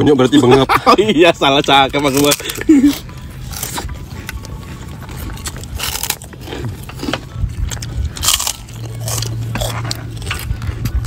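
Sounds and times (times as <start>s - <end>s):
people crunching crackers: 1.3s - 11.0s.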